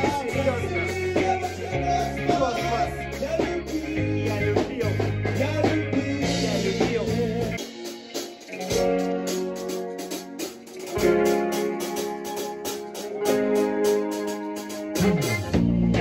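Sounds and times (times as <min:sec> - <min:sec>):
person singing: 0:00.0 - 0:07.9, 0:11.0 - 0:16.0
bass guitar: 0:00.0 - 0:16.0
drum kit: 0:00.0 - 0:16.0
guitar: 0:00.0 - 0:16.0.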